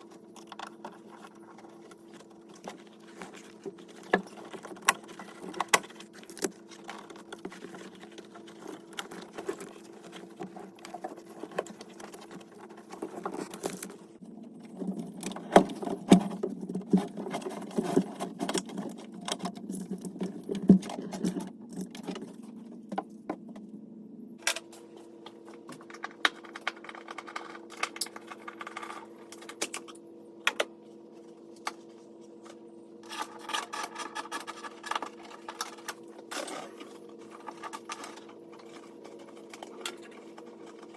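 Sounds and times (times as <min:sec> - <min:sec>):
clicking and rattling of wiring work: 0:00.0 - 0:23.7, 0:24.4 - 0:30.7, 0:32.4 - 0:40.9
steady hum: 0:00.0 - 0:40.9.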